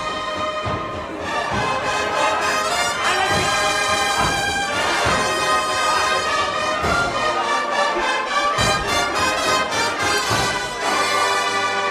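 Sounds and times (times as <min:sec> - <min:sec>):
brass band playing march: 0:00.0 - 0:11.9.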